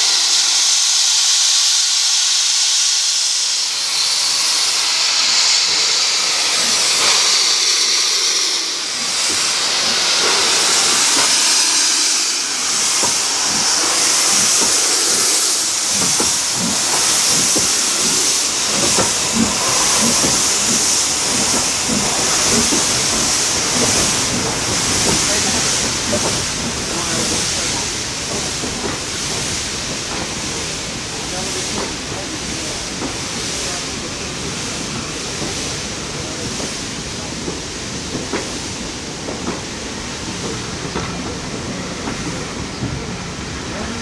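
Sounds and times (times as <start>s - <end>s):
steam hissing: 0.0s - 44.0s
steam locomotive chuffing: 0.0s - 44.0s.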